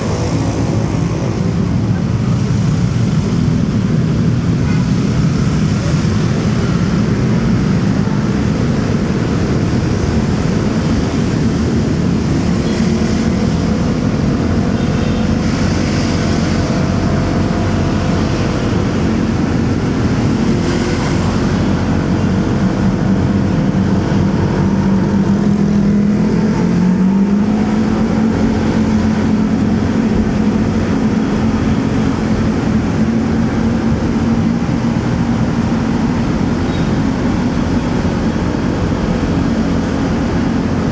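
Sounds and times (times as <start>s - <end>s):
surrounding traffic: 0.0s - 40.9s.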